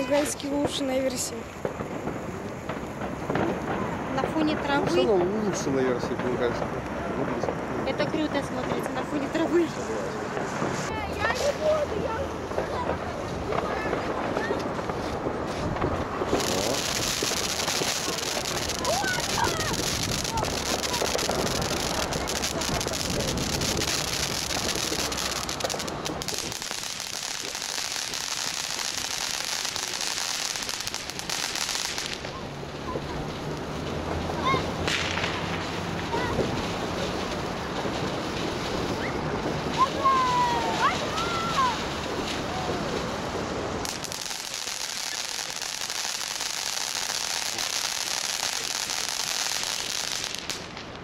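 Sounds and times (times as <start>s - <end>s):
firework fountain fizzing and crackling: 0.0s - 51.0s.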